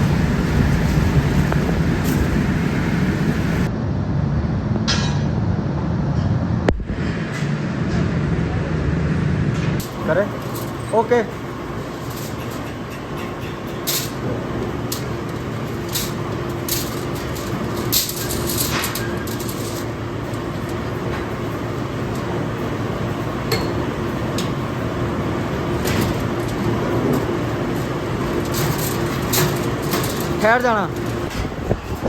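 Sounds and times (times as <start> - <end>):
factory machinery humming: 0.0 - 32.0.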